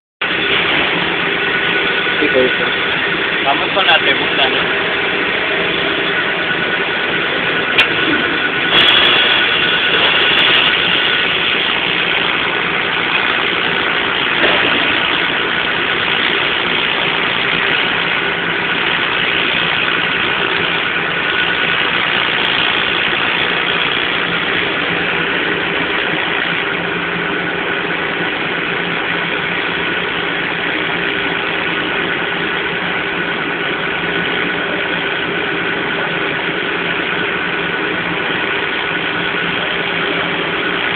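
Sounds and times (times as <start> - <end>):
welding machine hum with hiss: 0.2 - 40.9.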